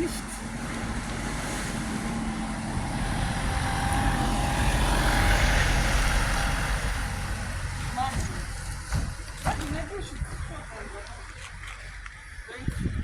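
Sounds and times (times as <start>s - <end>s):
truck engine passing by: 0.0s - 12.4s.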